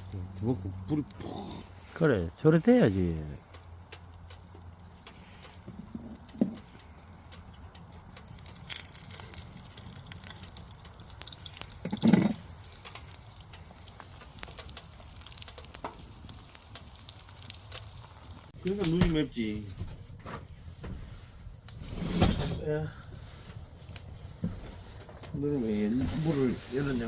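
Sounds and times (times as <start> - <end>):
wood pellets crackling in stove: 0.0 - 27.0.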